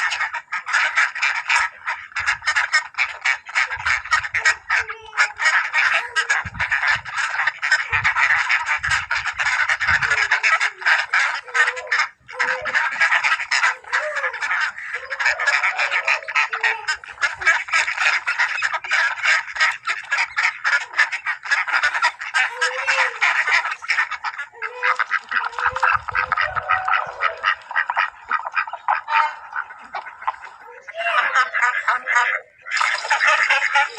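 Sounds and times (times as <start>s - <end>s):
ducks quacking: 0.0s - 33.9s.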